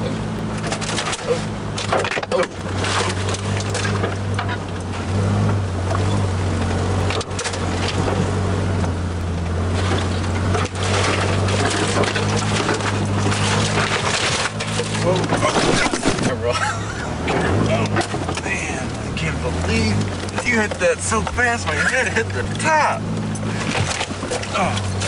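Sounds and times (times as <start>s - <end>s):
branches scraping vehicle body: 0.0s - 25.0s
truck engine running: 0.0s - 25.0s.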